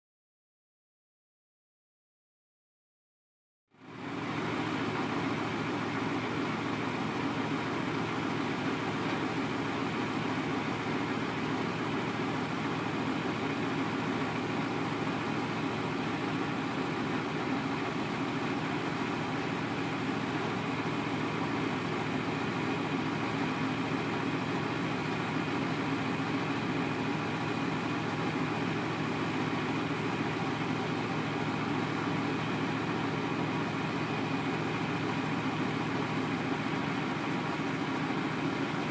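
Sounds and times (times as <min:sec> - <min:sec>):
diesel truck engine idling: 0:03.8 - 0:38.9.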